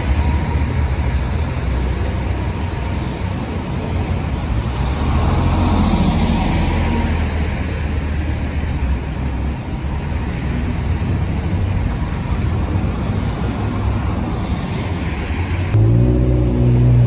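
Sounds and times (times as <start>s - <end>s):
bus engine rumbling: 0.0s - 17.0s
traffic noise: 0.0s - 17.0s.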